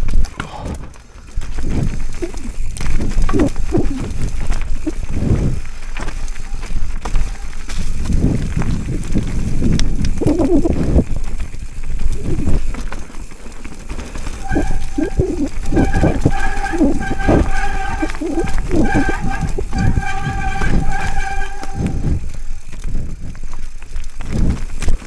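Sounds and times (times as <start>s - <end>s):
bike knocks and rattles: 0.0s - 10.2s, 10.8s - 25.0s
wind rumble on microphone: 0.0s - 13.0s, 14.4s - 25.0s
tyres on dirt and roots: 0.0s - 25.0s.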